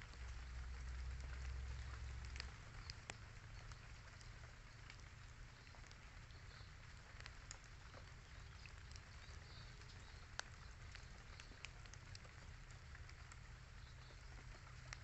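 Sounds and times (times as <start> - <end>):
light drizzle hiss: 0.0 - 15.0
raindrops ticking on leaves and plastic: 0.0 - 15.0.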